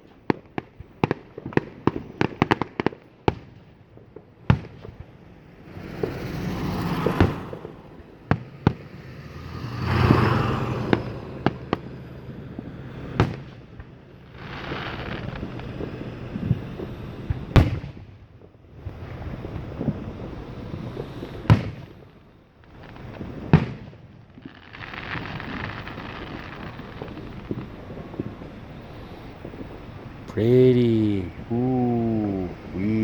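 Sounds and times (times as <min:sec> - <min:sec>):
fireworks bangs: 0:00.0 - 0:33.0
fireworks booms: 0:00.0 - 0:33.0.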